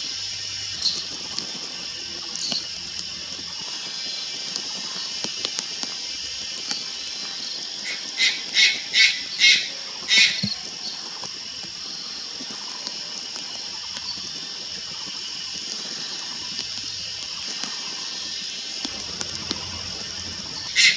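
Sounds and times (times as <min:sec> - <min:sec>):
steady high-pitched hiss: 0:00.0 - 0:10.0, 0:10.7 - 0:20.9.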